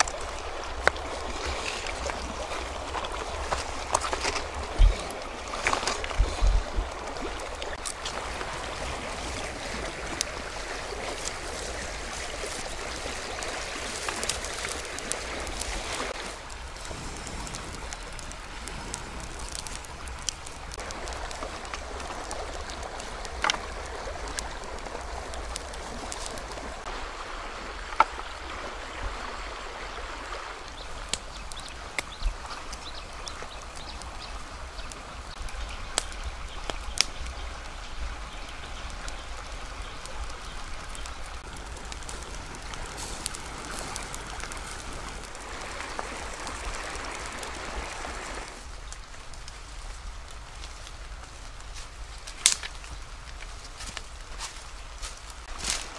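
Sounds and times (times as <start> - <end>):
stream flowing over rocks: 0.0 - 53.4, 54.4 - 55.9
campfire popping and crackling: 0.0 - 55.9.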